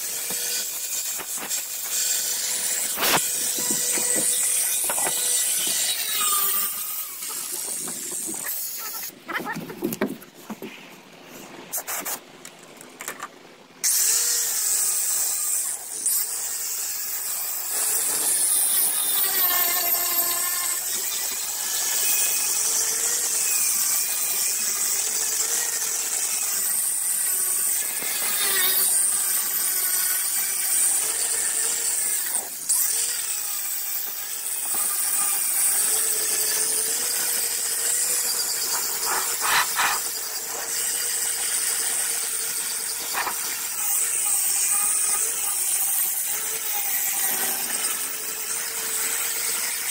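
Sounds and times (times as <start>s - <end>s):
power grinder running: 0.0s - 9.2s, 14.0s - 49.9s.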